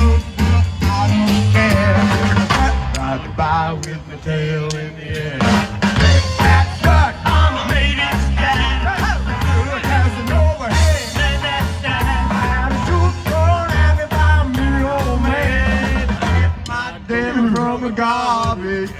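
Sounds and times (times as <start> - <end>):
drum beat: 0.0 - 3.0, 4.7 - 16.9
bass: 0.0 - 4.1, 5.1 - 18.9
live rockabilly band: 0.0 - 18.9
person singing: 0.0 - 18.9.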